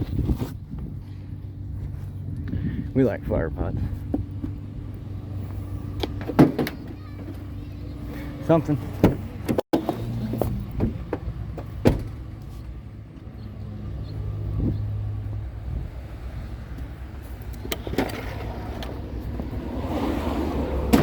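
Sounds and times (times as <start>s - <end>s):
vehicle engine idling: 0.6s - 17.9s.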